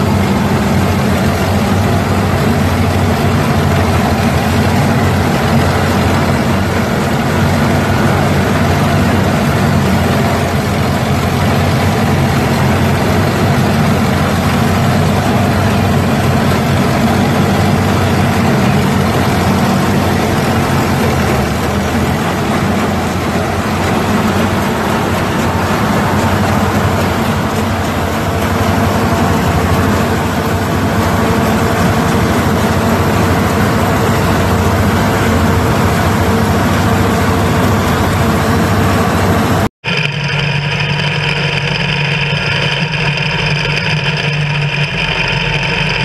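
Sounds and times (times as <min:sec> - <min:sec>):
corn picker working: 0:00.0 - 0:46.0
tractor engine running: 0:00.0 - 0:46.0.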